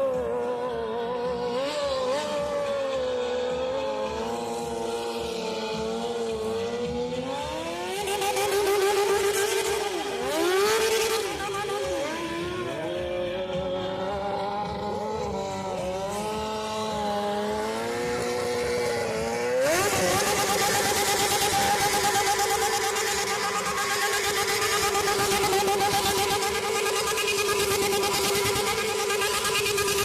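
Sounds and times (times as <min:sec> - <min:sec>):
vehicle engines revving: 0:00.0 - 0:30.0.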